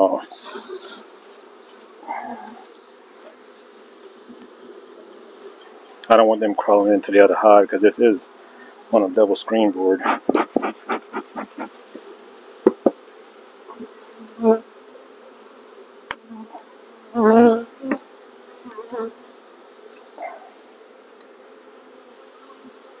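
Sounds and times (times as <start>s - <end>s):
bee buzzing past: 0.0s - 23.0s
bees buzzing at a hive: 0.0s - 23.0s.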